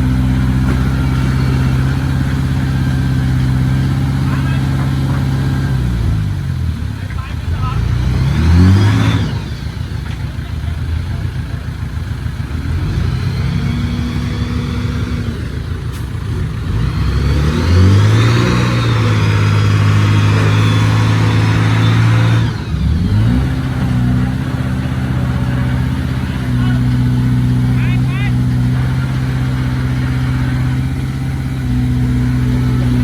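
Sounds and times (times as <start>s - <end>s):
bulldozer diesel engine revving: 0.0s - 33.0s.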